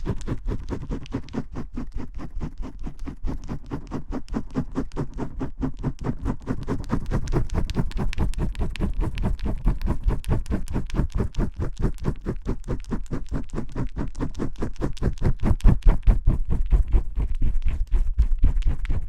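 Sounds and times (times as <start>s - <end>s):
fingers scrubbing shampooed hair: 0.0s - 19.0s.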